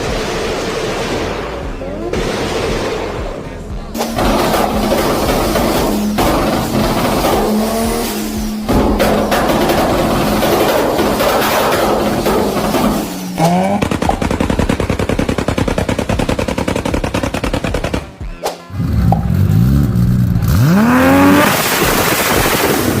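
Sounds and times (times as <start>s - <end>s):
car engine revving: 0.0s - 23.0s
exhaust pops: 0.0s - 23.0s.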